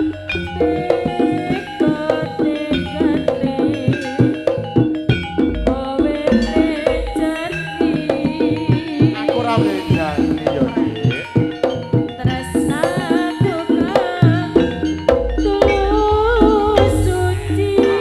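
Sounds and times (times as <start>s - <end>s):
hand drum beats: 0.0s - 18.0s
wavering pitched melody: 0.0s - 18.0s.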